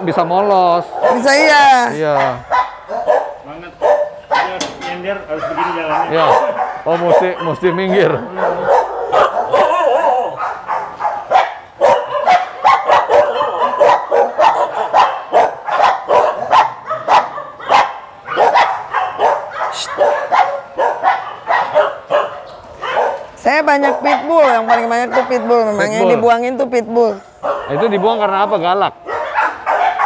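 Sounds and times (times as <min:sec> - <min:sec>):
many dogs barking: 0:00.0 - 0:30.0.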